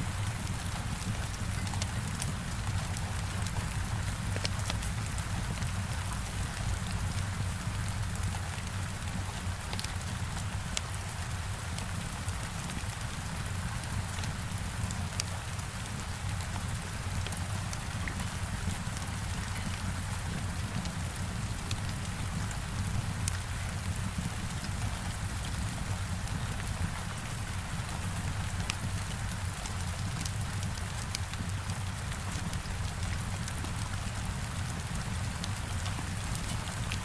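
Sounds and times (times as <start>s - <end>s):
heavy rain on a window: 0.0s - 37.0s.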